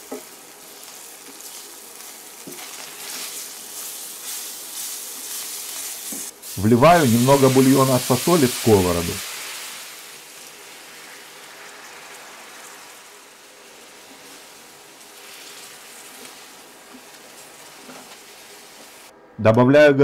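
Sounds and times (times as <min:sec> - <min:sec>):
broth sizzling in a hot pan: 0:00.0 - 0:19.1.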